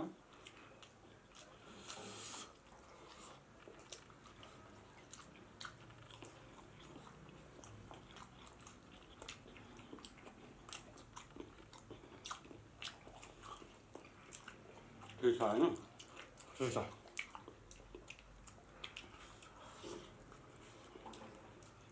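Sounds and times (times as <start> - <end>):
person chewing food: 0.2 - 21.9.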